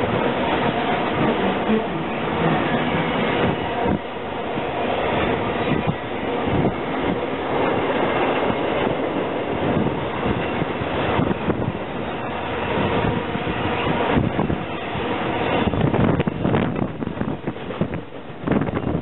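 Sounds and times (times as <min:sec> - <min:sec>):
steel wheels on rails: 0:00.0 - 0:19.0.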